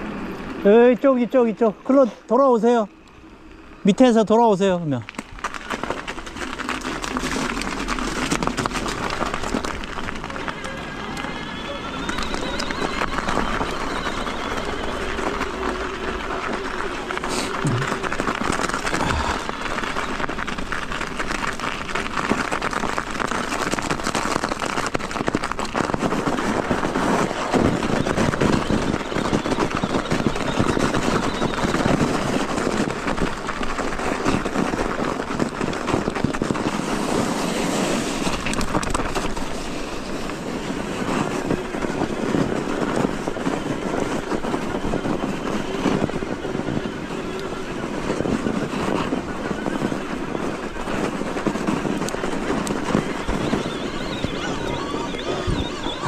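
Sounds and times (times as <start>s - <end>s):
bike tyre and ride noise: 0.0s - 56.0s
wind on microphone: 5.7s - 56.0s.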